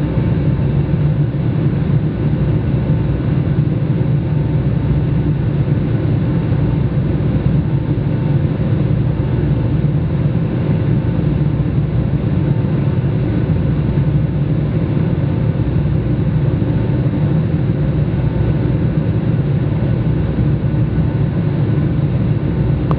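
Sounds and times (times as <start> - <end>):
aircraft cabin engine roar: 0.0 - 22.9.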